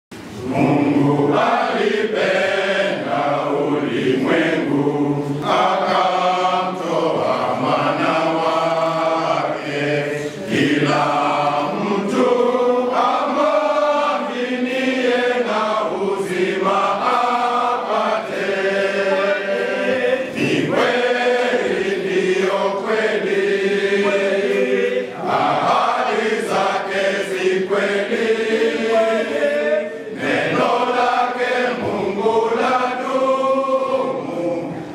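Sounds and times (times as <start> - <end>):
men's choir singing a hymn: 0.2 - 34.9.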